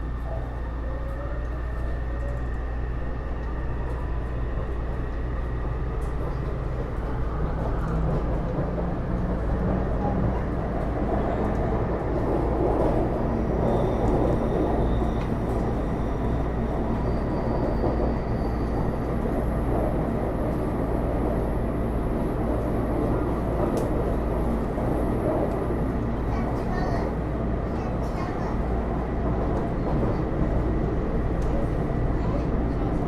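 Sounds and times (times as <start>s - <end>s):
metro car wheels rumbling on rail: 0.0s - 33.0s.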